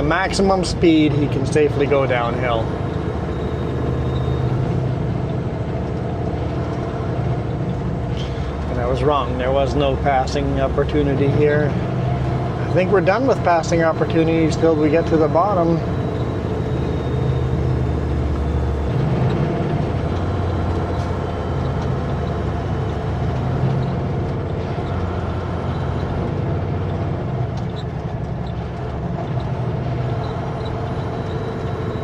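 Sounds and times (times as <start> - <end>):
diesel truck engine drone: 0.0 - 32.0
road noise: 0.0 - 32.0.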